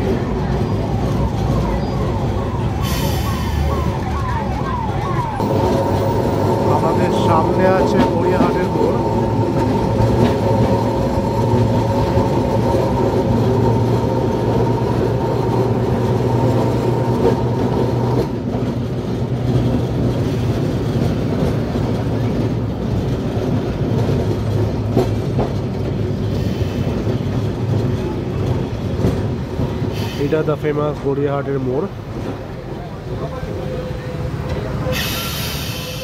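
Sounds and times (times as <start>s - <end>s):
electric tram hum: 0.0s - 36.0s
wheels rumbling on rails: 0.0s - 36.0s.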